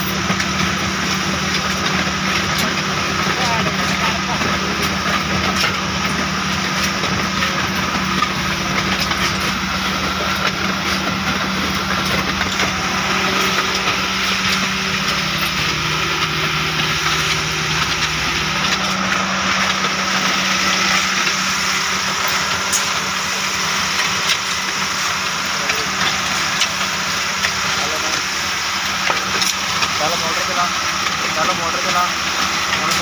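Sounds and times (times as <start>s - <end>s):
machinery motor humming: 0.0s - 33.0s.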